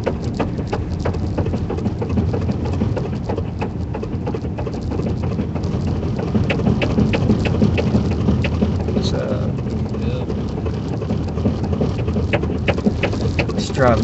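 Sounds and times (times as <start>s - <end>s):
tyres crackling over snow: 0.0s - 14.0s
vehicle engine and tyre rumble: 0.0s - 14.0s.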